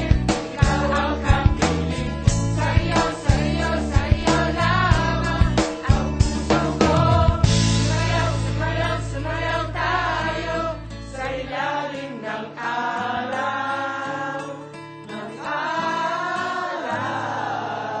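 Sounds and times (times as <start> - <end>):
song with sung vocals: 0.0 - 18.0.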